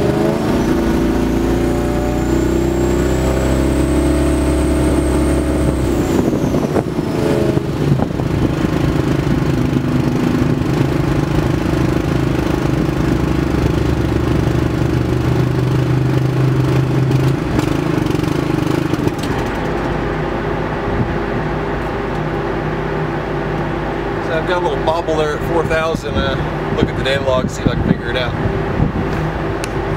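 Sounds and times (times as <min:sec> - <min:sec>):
engine pulling hard under load: 0:00.0 - 0:29.9.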